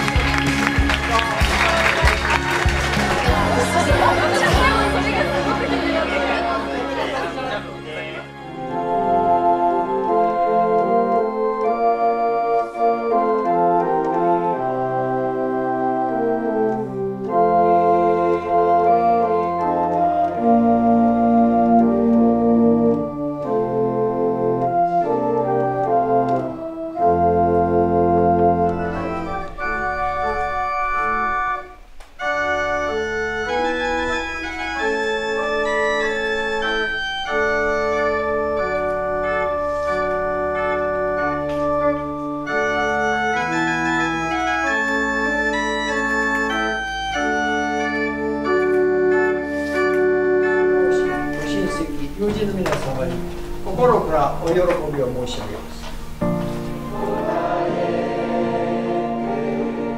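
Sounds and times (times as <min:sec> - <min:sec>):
deep organ pedal bass: 0:00.0 - 0:59.9
organ playing chords: 0:00.0 - 0:59.9.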